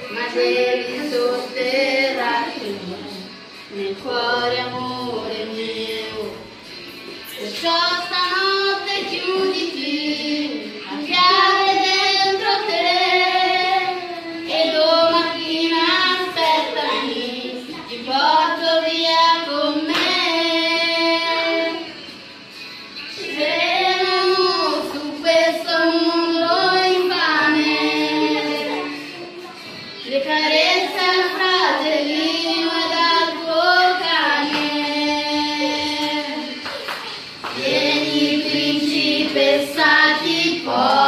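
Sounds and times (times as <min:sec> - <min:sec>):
woman singing into a microphone: 0:00.0 - 0:06.5, 0:07.2 - 0:22.0, 0:23.2 - 0:29.1, 0:30.0 - 0:36.7.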